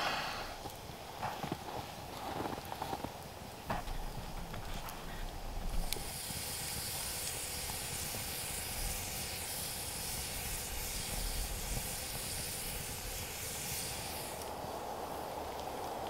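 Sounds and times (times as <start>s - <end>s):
campfire burning with hiss: 0.0s - 16.0s.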